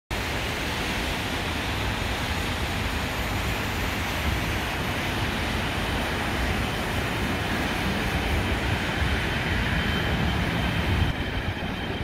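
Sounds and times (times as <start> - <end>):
distant jet taking off: 0.3 - 12.0.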